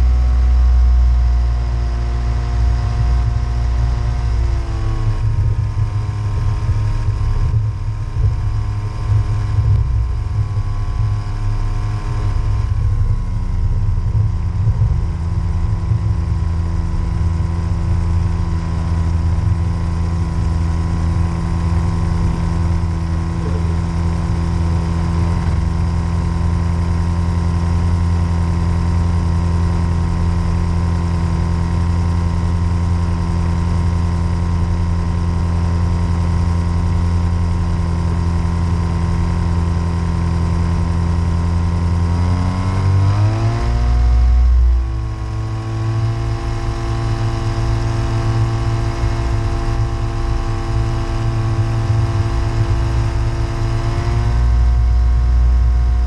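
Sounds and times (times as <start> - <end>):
ultralight engine running: 0.0 - 56.0.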